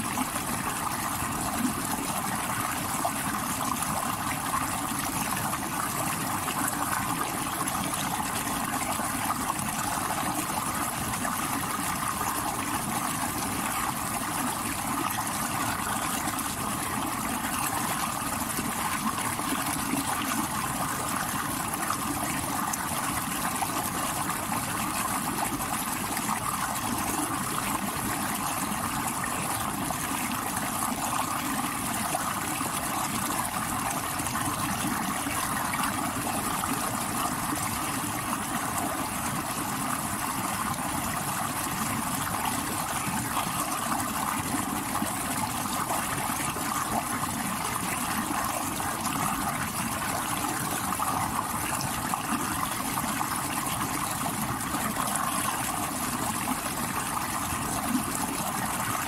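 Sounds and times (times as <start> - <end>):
stream water rushing over rocks: 0.0 - 59.0.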